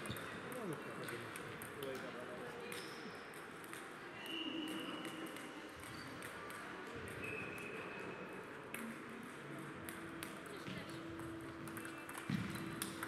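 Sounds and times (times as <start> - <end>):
table tennis balls clicking: 0.0 - 7.8, 8.6 - 13.0.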